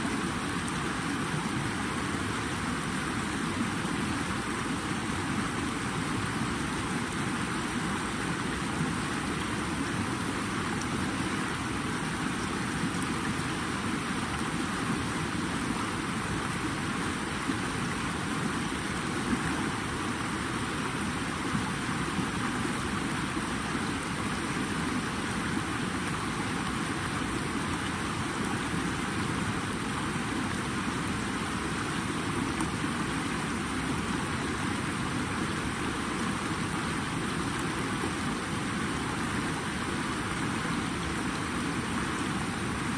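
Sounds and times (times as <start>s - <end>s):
flowing water: 0.0s - 42.9s.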